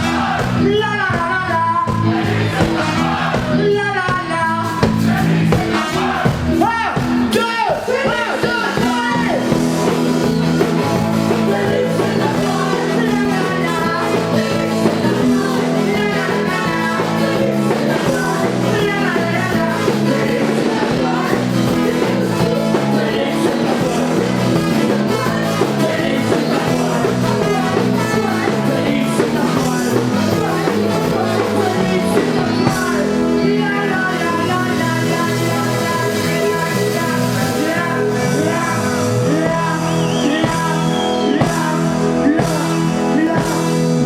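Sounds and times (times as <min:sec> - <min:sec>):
bass line: 0:00.0 - 0:44.0
drums: 0:00.0 - 0:44.0
guitars: 0:00.0 - 0:44.0
person singing: 0:00.0 - 0:44.0.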